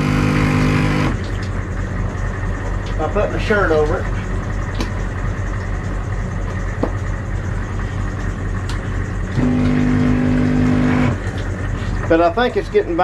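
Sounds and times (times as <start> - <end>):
steady hum: 0.0 - 13.0
water pump droning: 0.0 - 13.0.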